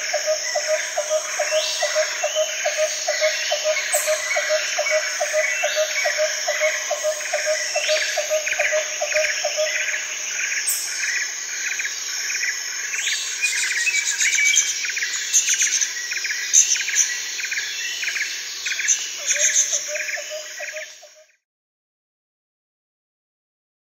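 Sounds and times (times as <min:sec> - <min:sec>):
high insect chorus: 0:00.0 - 0:21.4.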